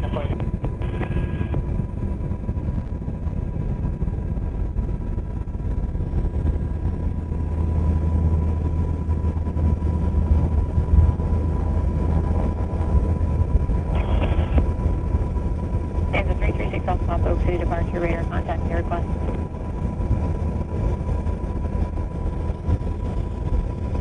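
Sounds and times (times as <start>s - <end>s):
helicopter rotor and turbine drone: 0.0s - 24.0s.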